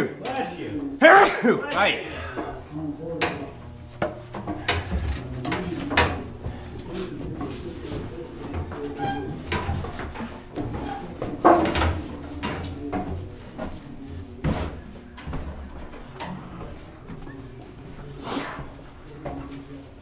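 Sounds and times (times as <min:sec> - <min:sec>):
footsteps on steel ladder: 0:03.2 - 0:20.0.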